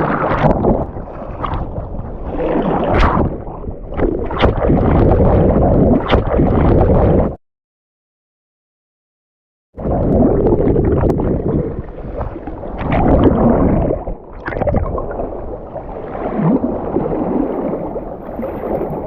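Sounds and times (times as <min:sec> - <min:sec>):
sea water washing: 0:00.0 - 0:07.4, 0:09.8 - 0:19.0
wind rumbling on microphone: 0:00.0 - 0:07.4, 0:09.8 - 0:19.0.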